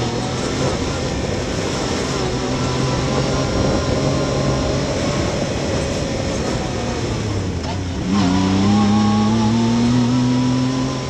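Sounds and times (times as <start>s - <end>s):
engine running and accelerating: 0.0s - 11.0s
tyre and wind noise: 0.0s - 11.0s.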